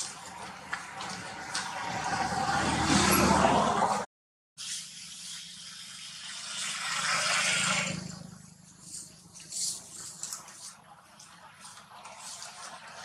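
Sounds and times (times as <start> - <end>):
vehicle passing: 0.0 - 4.1, 6.3 - 13.0.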